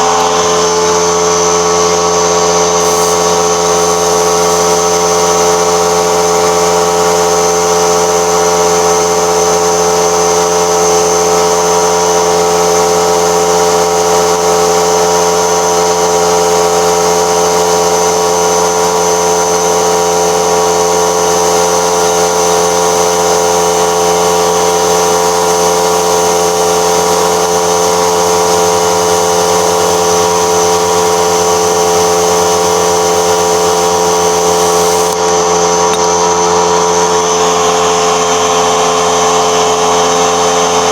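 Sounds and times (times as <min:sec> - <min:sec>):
constant high whine: 0:00.0 - 0:40.9
electric motor hum: 0:00.0 - 0:40.9.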